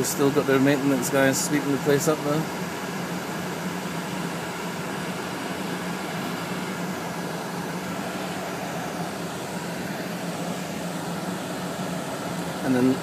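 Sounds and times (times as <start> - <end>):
low constant hum: 0.0 - 13.0.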